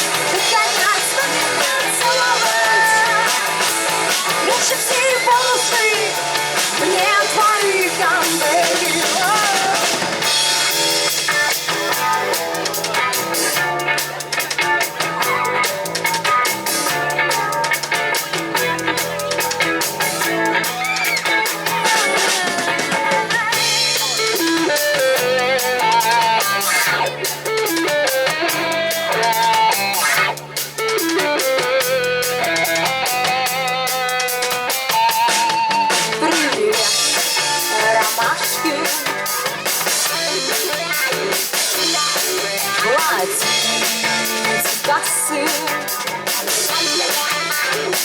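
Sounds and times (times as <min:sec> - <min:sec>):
bass line: 0:00.0 - 0:48.0
drum kit beat: 0:00.0 - 0:48.0
lead guitar melody: 0:00.0 - 0:48.0.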